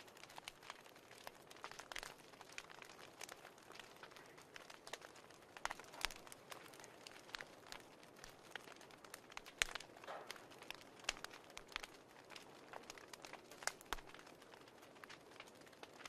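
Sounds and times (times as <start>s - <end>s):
fireplace crackling and snapping: 0.0s - 16.0s
soft steady fire hiss: 0.0s - 16.0s.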